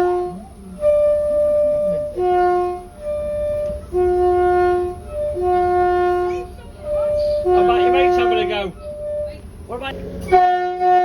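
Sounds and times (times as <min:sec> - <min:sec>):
two-tone train horn blasts: 0:00.0 - 0:11.0.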